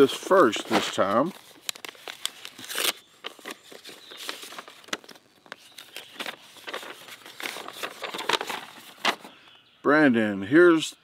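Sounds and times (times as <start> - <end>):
paper rustling and crinkling: 0.0 - 9.3.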